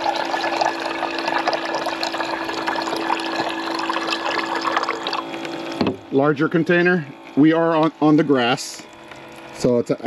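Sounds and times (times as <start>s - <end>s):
water pump humming: 0.0s - 10.0s.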